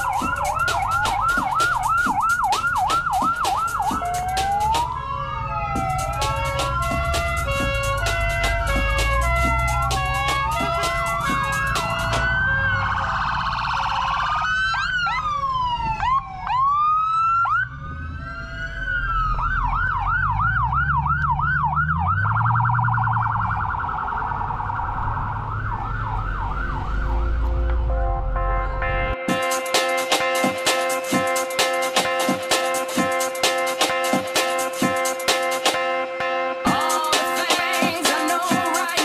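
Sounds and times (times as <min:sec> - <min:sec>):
car engine revving: 0:00.0 - 0:14.1, 0:17.5 - 0:35.7
police siren wailing and yelping: 0:00.0 - 0:39.0.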